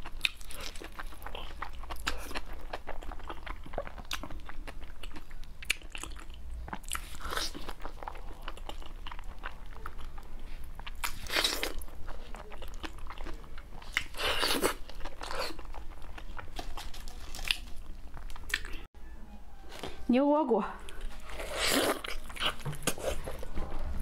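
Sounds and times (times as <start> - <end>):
person chewing crunchy food: 0.0 - 18.9, 20.8 - 24.0.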